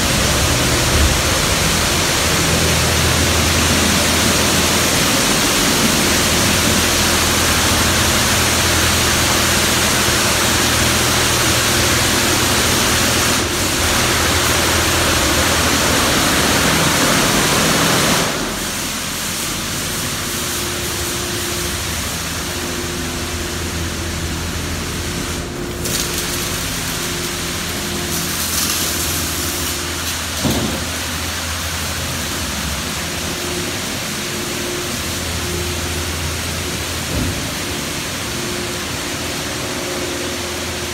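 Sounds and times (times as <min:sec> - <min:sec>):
car wash motors humming: 0:00.0 - 0:40.9.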